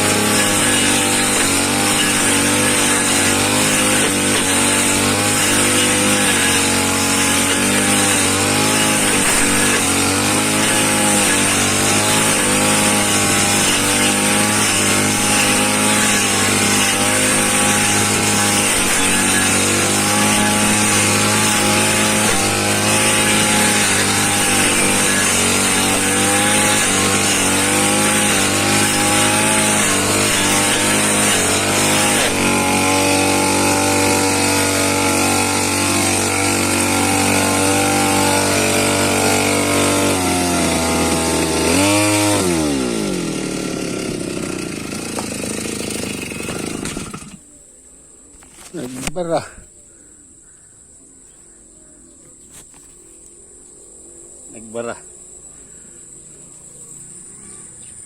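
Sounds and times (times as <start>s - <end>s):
small petrol engine running: 0.0s - 47.4s.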